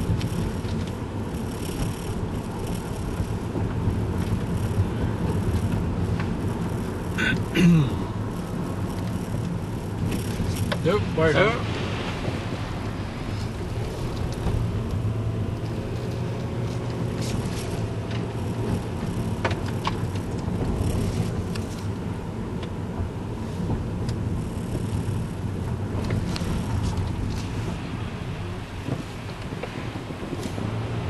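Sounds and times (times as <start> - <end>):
road and engine rumble: 0.0 - 31.0.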